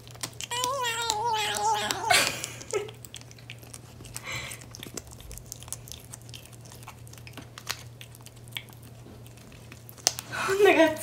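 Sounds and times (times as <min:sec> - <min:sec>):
kitten licking wet smacks: 0:00.0 - 0:10.4.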